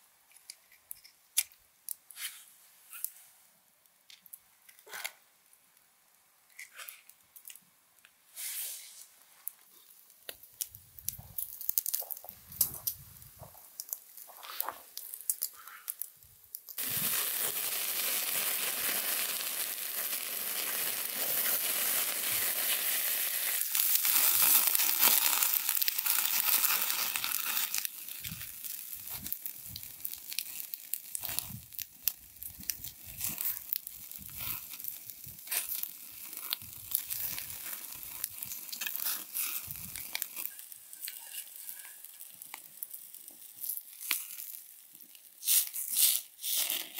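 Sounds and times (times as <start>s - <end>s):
fire crackling and popping: 0.2s - 2.2s, 2.9s - 46.9s
meat sizzling over fire: 8.2s - 46.9s.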